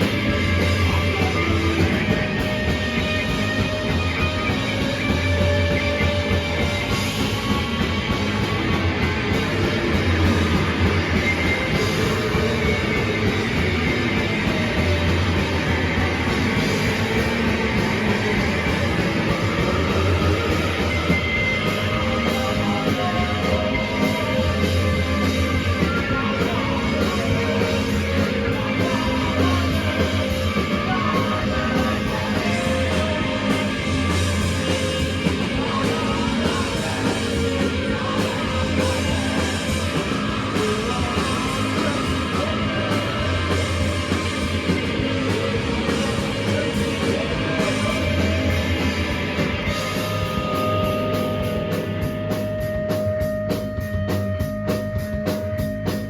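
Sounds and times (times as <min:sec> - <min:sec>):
live punk rock band: 0:00.0 - 0:56.0.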